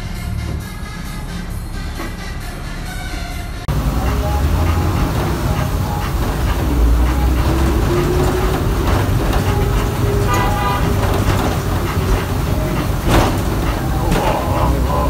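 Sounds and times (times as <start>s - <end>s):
bus engine rumble and whine: 0.0s - 15.0s
bus horn toot: 0.0s - 15.0s.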